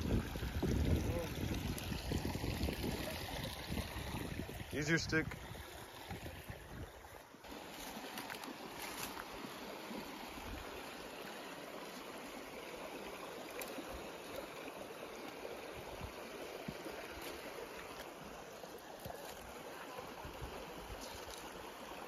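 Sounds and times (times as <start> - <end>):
creek running over rocks: 0.0 - 22.0.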